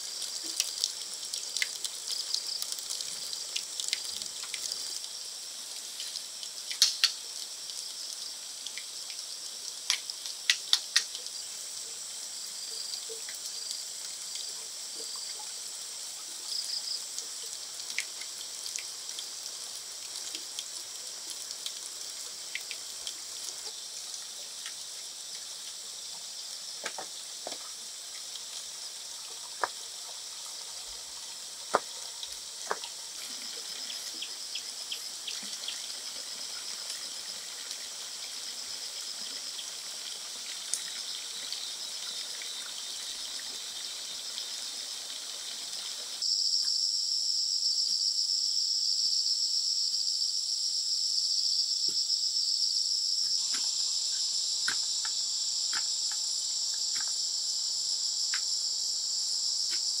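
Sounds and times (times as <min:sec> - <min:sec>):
insects chorus: 0:00.0 - 1:00.0.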